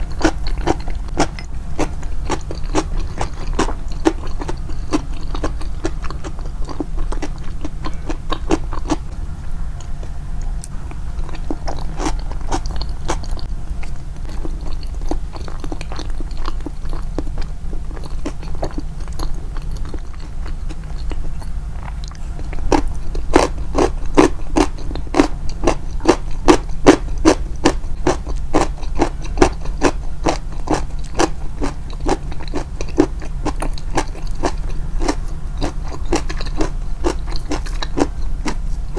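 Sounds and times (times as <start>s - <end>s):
crunchy chewing of pickles: 0.0s - 38.9s.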